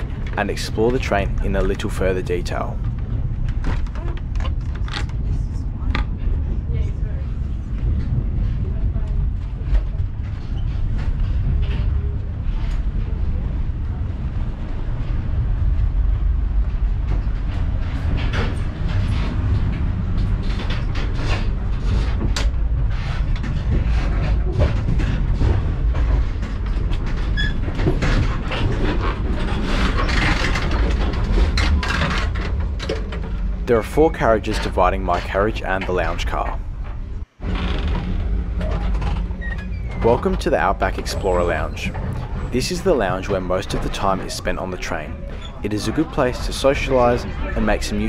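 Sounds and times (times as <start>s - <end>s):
low rumble of wheels on rail: 0.0s - 48.0s
rattling and clacking: 7.7s - 48.0s.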